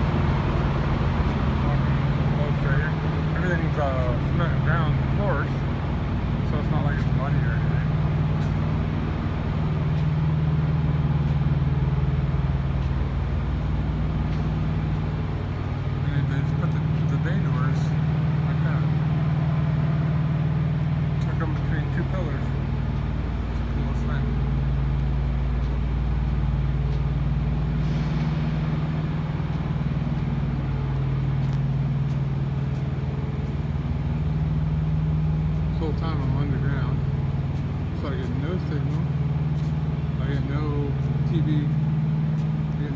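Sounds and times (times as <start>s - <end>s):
machinery droning: 0.0s - 42.9s.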